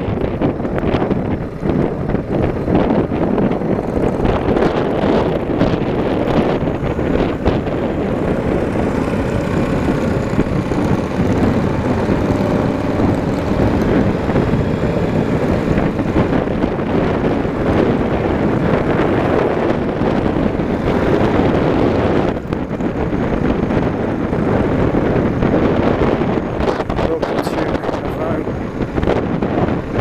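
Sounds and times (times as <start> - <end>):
motorcycle engine drone: 0.0 - 30.0
wind rush on microphone: 0.0 - 30.0.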